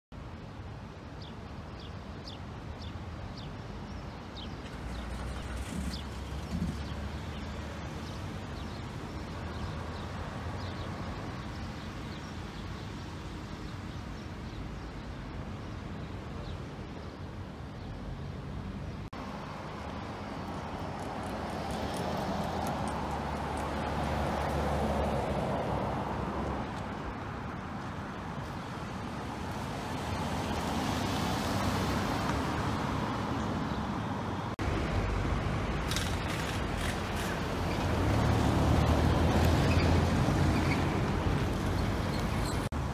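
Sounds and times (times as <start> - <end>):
road traffic hum: 0.1 - 42.9
vehicles passing: 2.2 - 42.9.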